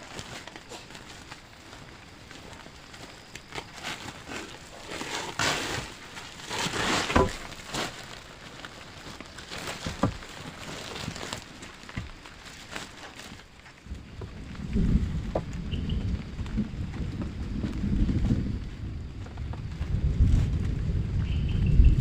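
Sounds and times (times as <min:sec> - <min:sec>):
rustling and crinkling: 0:00.0 - 0:22.0.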